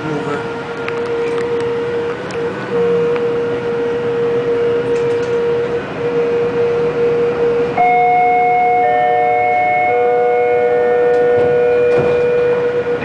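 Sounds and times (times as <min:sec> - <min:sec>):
train rolling noise: 0:00.0 - 0:13.0
electric whine: 0:00.4 - 0:13.0.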